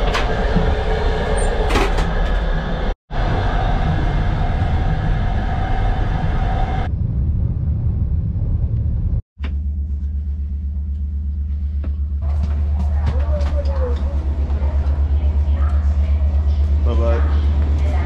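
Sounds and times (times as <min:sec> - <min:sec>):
train rumbling: 0:00.0 - 0:18.0
deep pulsing hum: 0:02.7 - 0:18.0.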